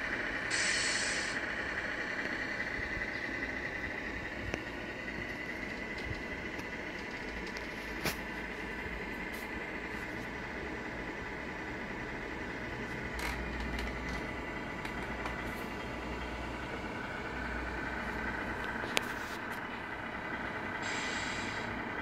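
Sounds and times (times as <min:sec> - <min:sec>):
diesel engine idling sound: 0:00.0 - 0:22.0.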